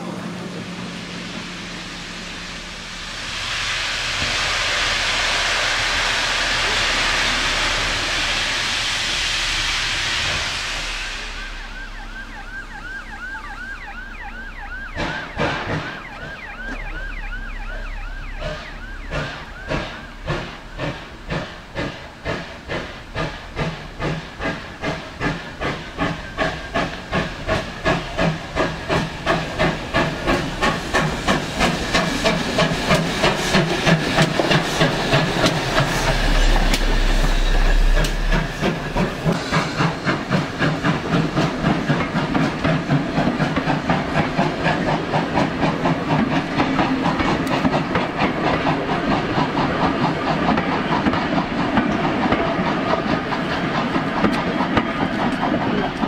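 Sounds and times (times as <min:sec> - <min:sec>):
steam hissing: 0:00.0 - 0:56.0
steam locomotive exhaust beats: 0:00.0 - 0:56.0.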